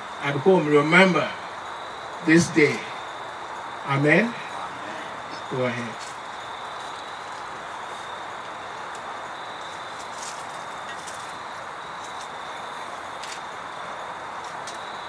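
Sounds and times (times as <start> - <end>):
background hiss: 0.0 - 15.0
faint high whine: 0.0 - 15.0.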